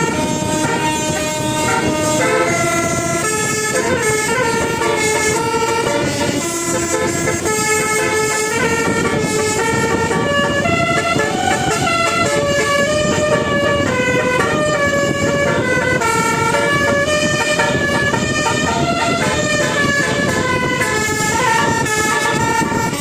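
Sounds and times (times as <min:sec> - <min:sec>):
multi-tone bus air horn tune: 0:00.0 - 0:23.0.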